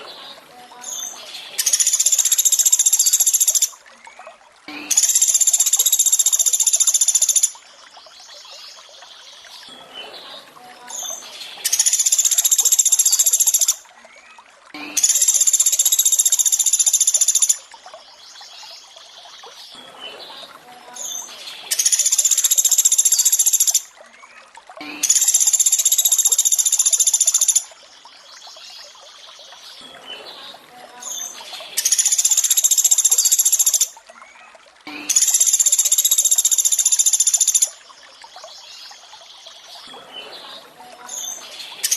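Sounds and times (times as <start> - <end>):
trickle of running water: 0.0 - 41.9.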